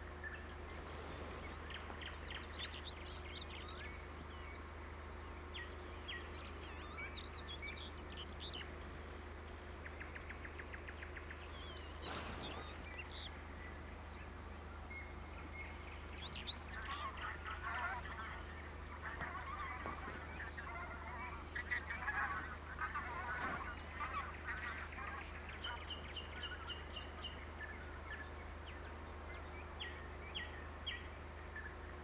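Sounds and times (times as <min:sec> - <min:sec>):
birds chattering: 0:00.0 - 0:32.0.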